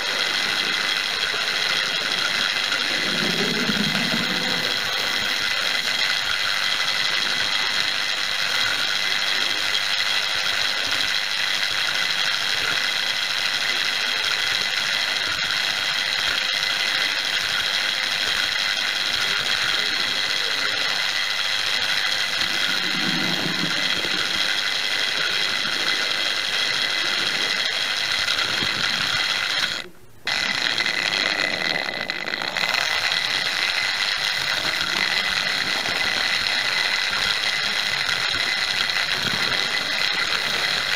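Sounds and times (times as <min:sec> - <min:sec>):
model train motor whining: 0:00.0 - 0:40.9
wheels on rails: 0:00.0 - 0:40.9.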